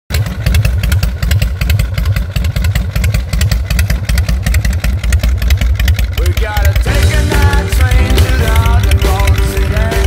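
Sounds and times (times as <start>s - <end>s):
motorcycle engine idling: 0.1s - 10.0s.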